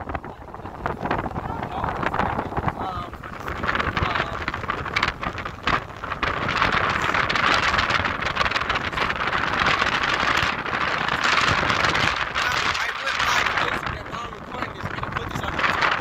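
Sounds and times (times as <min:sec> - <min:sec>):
storm wind buffeting microphone: 0:00.0 - 0:16.0
surf breaking on beach: 0:00.0 - 0:16.0.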